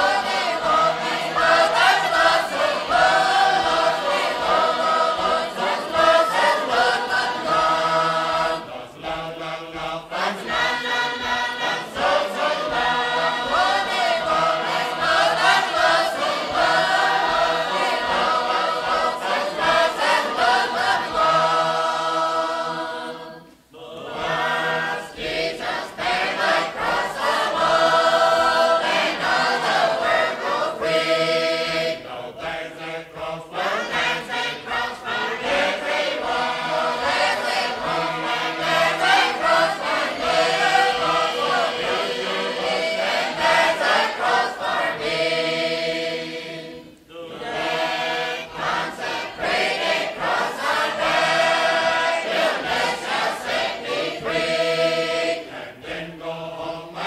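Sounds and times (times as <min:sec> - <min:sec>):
group singing chant-like song: 0:00.0 - 0:57.0.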